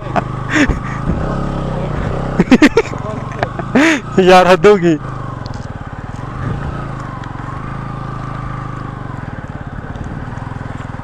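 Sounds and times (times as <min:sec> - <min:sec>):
motorcycle engine chugging: 0:00.0 - 0:11.0.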